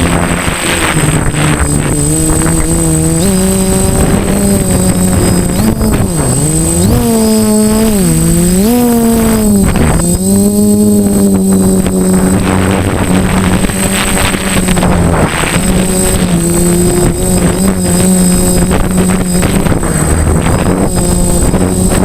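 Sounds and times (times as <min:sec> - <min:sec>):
drone propellers droning: 0:00.0 - 0:22.0.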